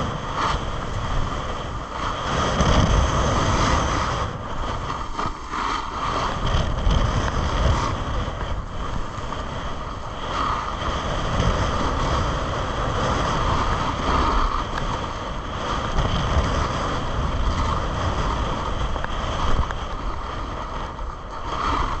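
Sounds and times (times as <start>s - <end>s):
skis scraping on packed snow: 0.0s - 22.0s
wind rushing over microphone: 0.0s - 22.0s.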